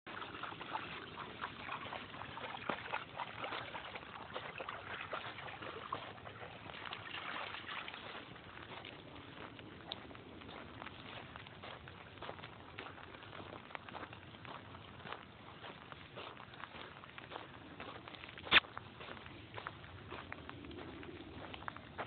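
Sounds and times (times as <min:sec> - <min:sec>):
water lapping on beach: 0:00.1 - 0:22.0.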